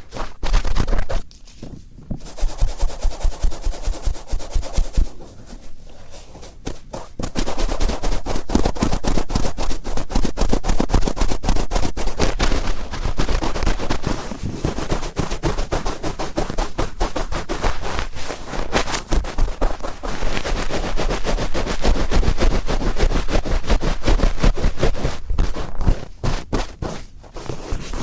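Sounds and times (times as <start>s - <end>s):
cotton swab scratching microphone: 0.0s - 28.0s.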